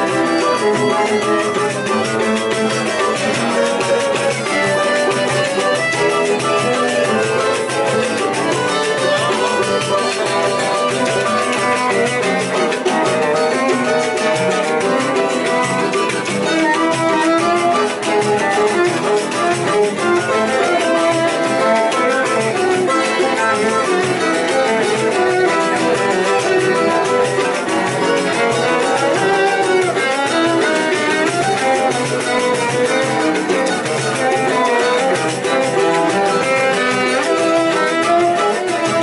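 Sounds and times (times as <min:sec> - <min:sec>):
bowed cello: 0:00.0 - 0:39.0
guitars strummed and plucked: 0:00.0 - 0:39.0.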